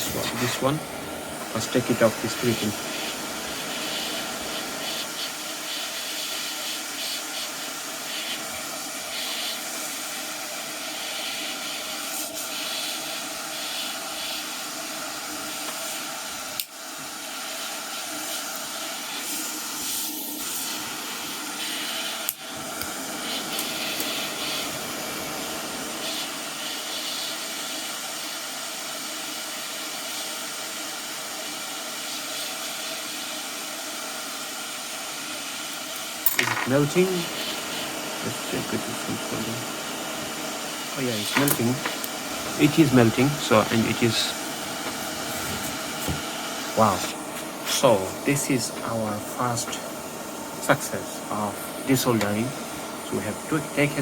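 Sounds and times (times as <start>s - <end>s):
hot air gun hissing: 0.0s - 28.4s, 35.2s - 54.0s.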